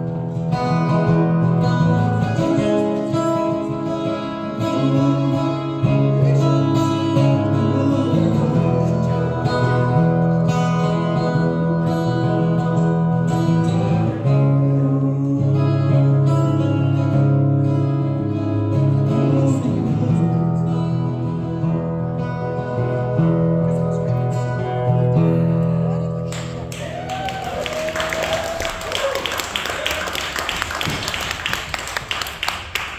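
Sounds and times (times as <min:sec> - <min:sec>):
acoustic guitar strumming: 0:00.0 - 0:26.7.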